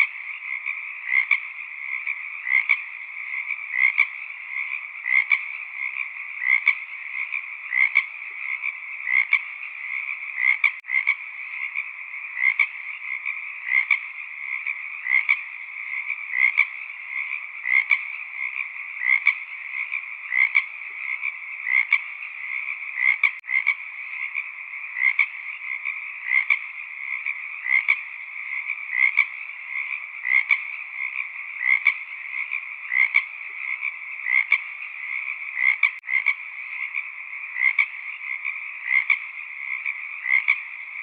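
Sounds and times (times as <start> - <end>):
frogs calling: 0.0 - 41.0.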